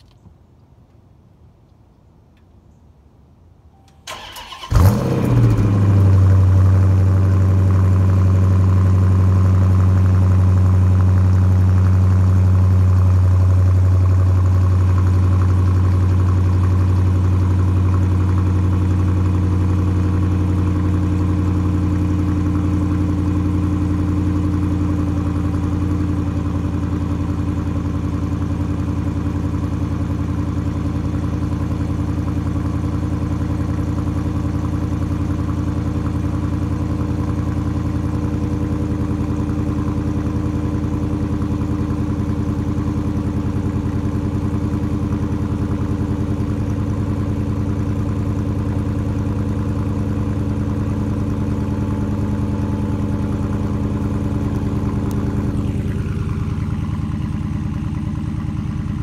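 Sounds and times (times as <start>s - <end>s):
car engine idling: 3.8s - 59.0s.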